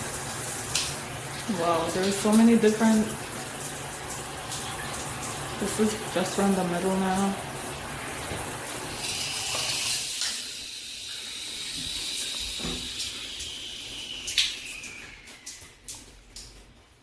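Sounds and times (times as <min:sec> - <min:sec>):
shower spraying water: 0:00.0 - 0:17.0
water dripping: 0:00.0 - 0:17.0.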